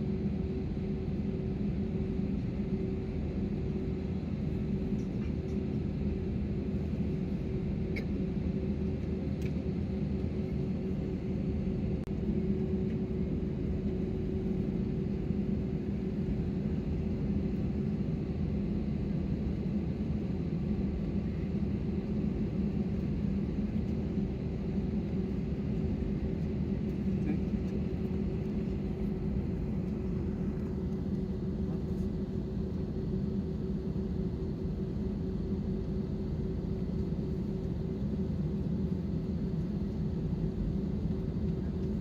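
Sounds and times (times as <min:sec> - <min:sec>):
airplane cabin rumble: 0:00.0 - 0:42.0
idling jet engines hum: 0:00.0 - 0:42.0.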